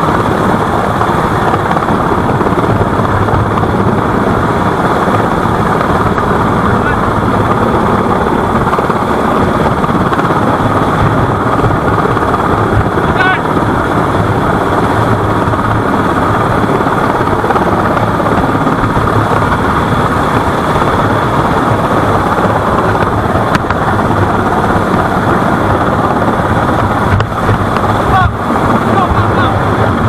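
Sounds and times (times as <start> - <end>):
helicopter rotor chop: 0.0 - 30.0
high turbine whine: 0.0 - 30.0.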